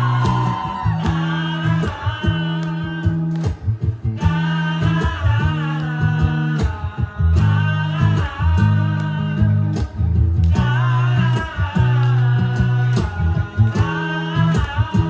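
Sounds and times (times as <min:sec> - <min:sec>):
guitar chords: 0:00.0 - 0:15.0
steady bass line: 0:00.0 - 0:15.0.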